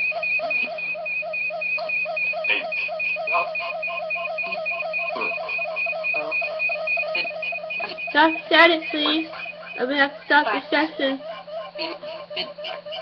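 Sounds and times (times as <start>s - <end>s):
electronic pulsing: 0.0s - 13.0s.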